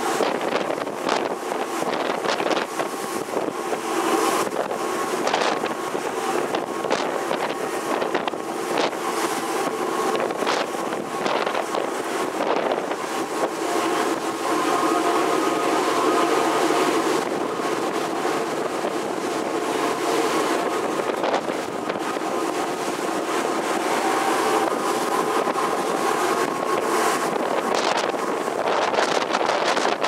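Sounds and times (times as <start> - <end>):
rushing white water: 0.0 - 30.0
ship machinery hum: 0.0 - 30.0
wind buffeting microphone: 0.0 - 30.0.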